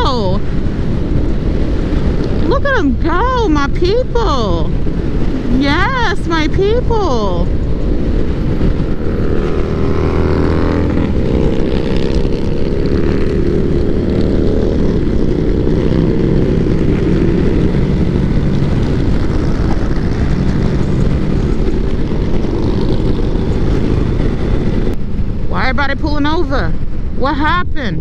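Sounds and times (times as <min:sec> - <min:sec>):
many motorcycle engines droning: 0:00.0 - 0:28.0.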